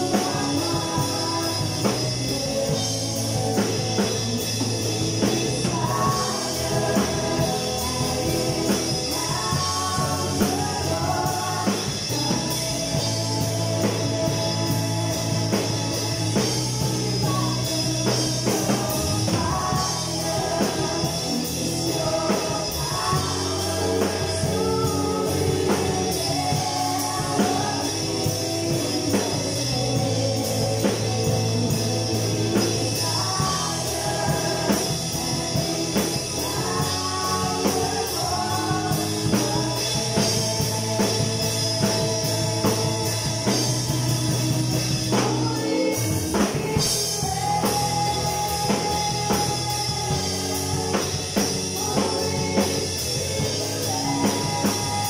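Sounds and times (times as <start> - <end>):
drum kit steady beat: 0.0 - 55.0
electric bass: 0.0 - 55.0
electric guitar: 0.0 - 55.0
keyboard: 0.0 - 55.0
person singing: 0.0 - 55.0.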